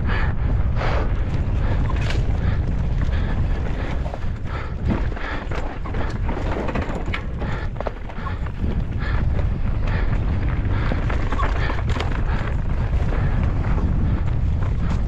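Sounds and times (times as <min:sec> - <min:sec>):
wind rumbling on microphone: 0:00.0 - 0:15.0
tyres rolling on loose dirt: 0:00.1 - 0:15.0
bike knocks and rattles: 0:01.2 - 0:15.0.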